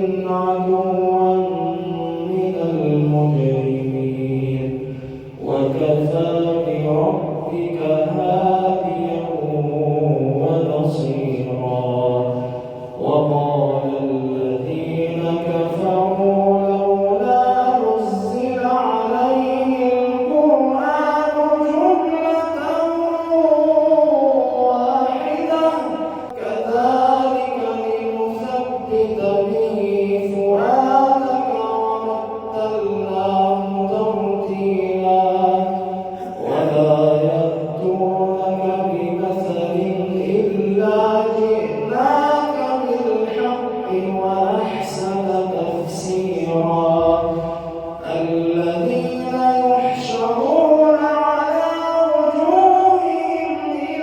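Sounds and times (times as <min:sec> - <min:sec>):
man chanting melodically: 0:00.0 - 0:54.0.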